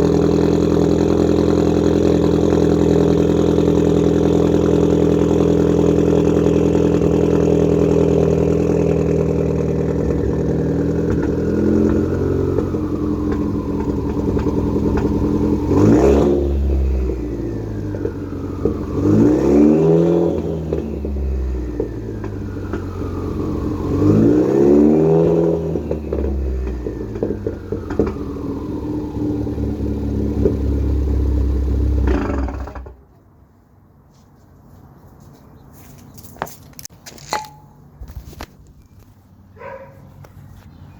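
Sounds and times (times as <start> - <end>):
car engine idling and revving: 0.0 - 33.4.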